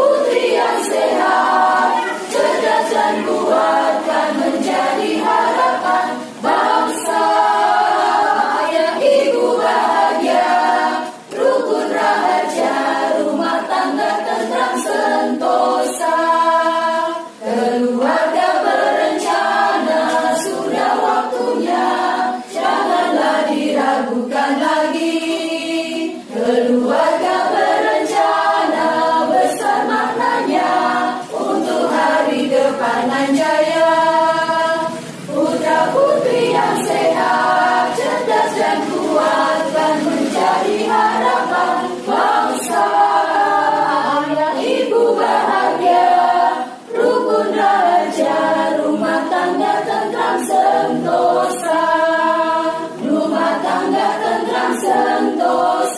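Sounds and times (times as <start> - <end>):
women's choir singing a march: 0.0 - 55.9.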